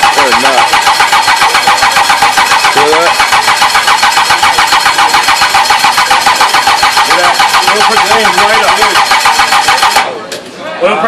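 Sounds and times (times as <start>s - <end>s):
engine cranking on starter motor: 0.0s - 10.1s.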